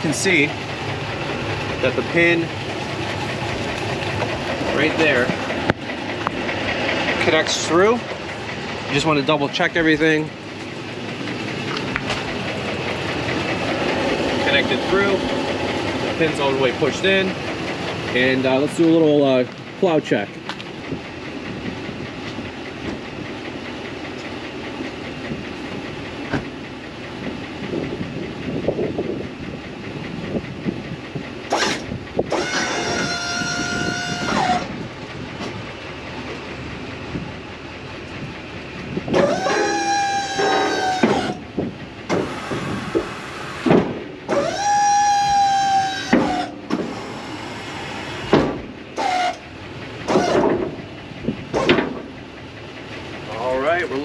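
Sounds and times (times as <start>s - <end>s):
engine rumble: 0.0s - 54.0s
hydraulic pump whining: 0.0s - 54.0s.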